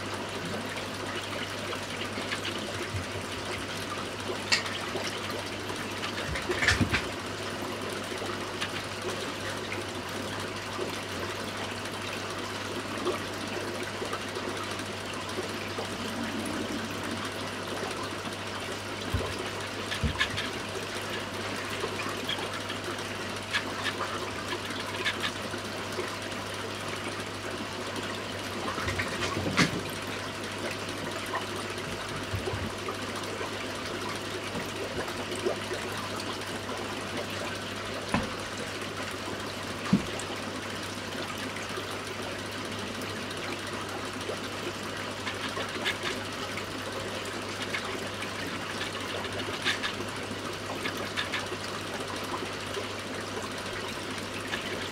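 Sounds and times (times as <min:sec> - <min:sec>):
aquarium filter pump humming: 0:00.0 - 0:54.9
moving water: 0:00.0 - 0:54.9.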